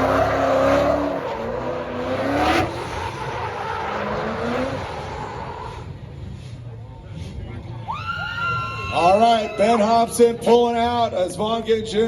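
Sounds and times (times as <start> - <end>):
car engines revving: 0.0 - 12.0
tire and exhaust noise: 0.0 - 12.0.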